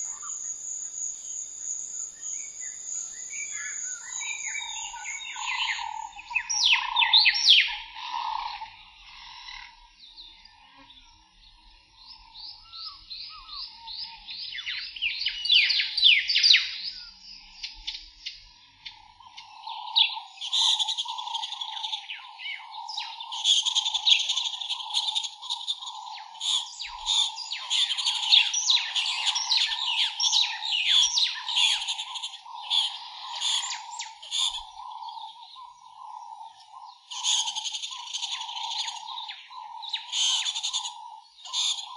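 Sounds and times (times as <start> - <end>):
birds chirping and twittering: 0.0 - 9.4, 10.0 - 41.9.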